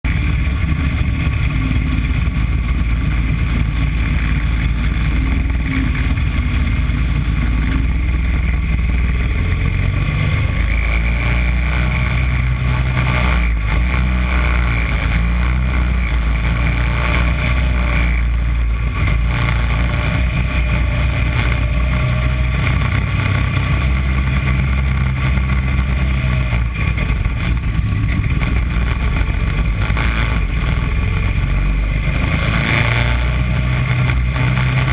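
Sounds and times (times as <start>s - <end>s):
small race car engine running: 0.1s - 34.9s.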